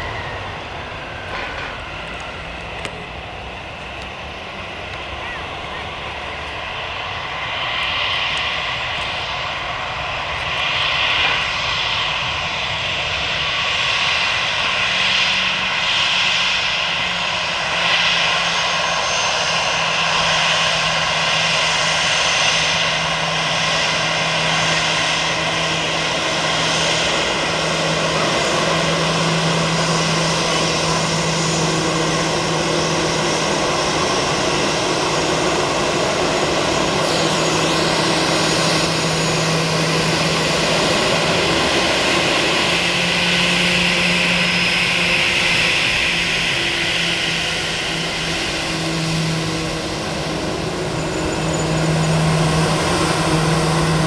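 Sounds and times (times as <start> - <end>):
jet engines roaring and whining: 0.0 - 54.0.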